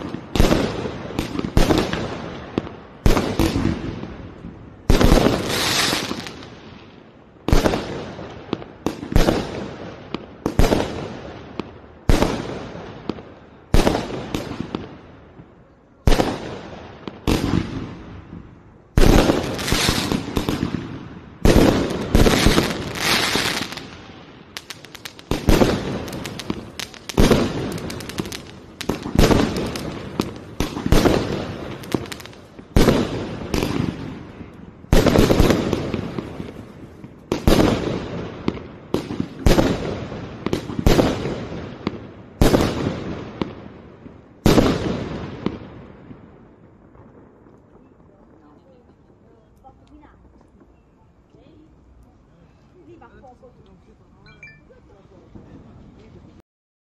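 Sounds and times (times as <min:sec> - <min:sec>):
fireworks bursting with echo: 0:00.0 - 0:51.0.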